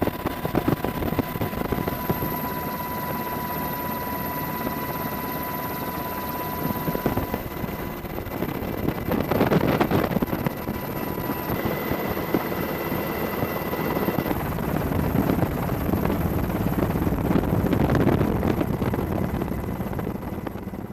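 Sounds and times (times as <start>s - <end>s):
helicopter rotor chop: 0.0s - 20.9s
turbine whine: 0.0s - 20.9s.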